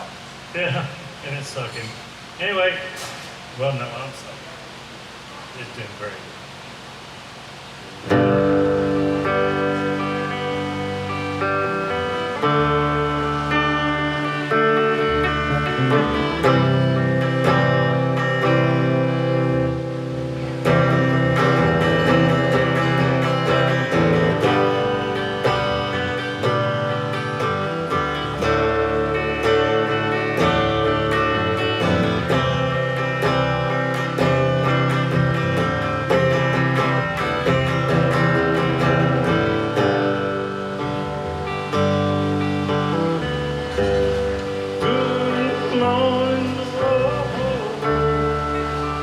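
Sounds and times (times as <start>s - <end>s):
country electric guitar: 8.0s - 49.0s.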